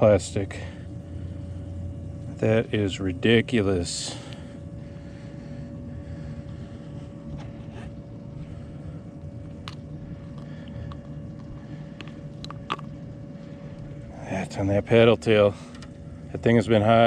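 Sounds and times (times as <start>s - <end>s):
motor running with low rumble: 0.0s - 17.0s.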